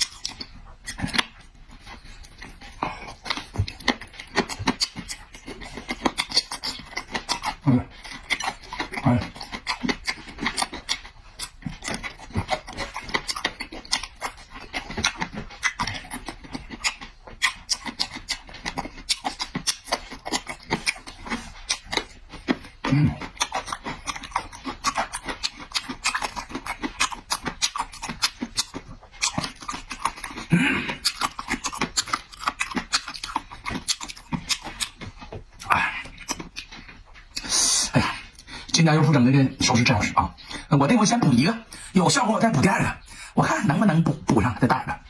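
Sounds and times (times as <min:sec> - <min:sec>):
person chewing noisily: 0:00.0 - 0:45.0.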